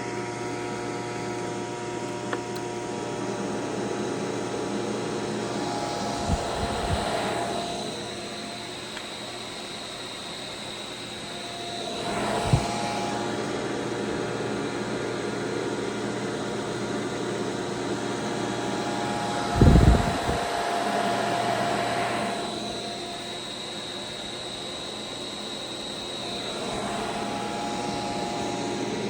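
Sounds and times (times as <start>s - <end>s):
drive fan whirring and whine: 0.0s - 29.0s.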